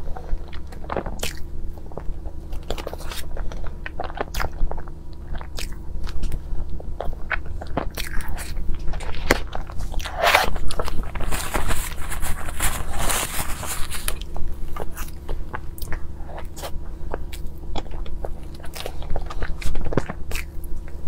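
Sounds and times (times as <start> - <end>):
low steady hum: 0.0 - 21.0
wet chewing mouth sounds: 0.2 - 21.0.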